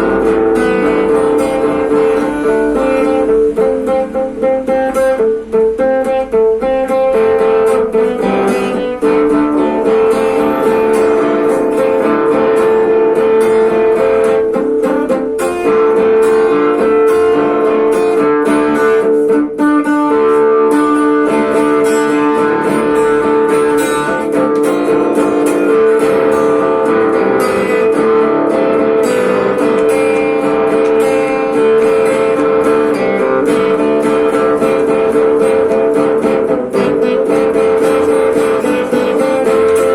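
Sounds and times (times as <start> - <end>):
guitar plucking over a drone: 0.0 - 39.9.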